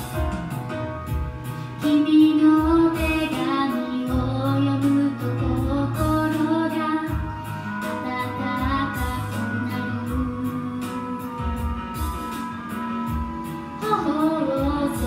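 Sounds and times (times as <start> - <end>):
karaoke backing track with beat: 0.0 - 15.0
woman singing into a microphone: 1.7 - 15.0.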